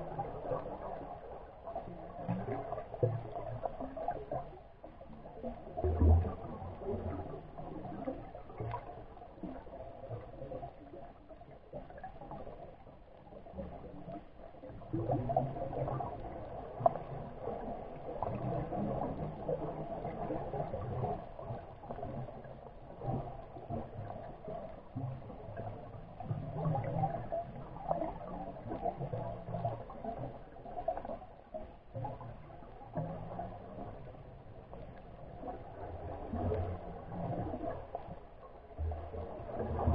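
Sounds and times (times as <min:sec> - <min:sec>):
underwater water wash: 0:00.0 - 0:39.9.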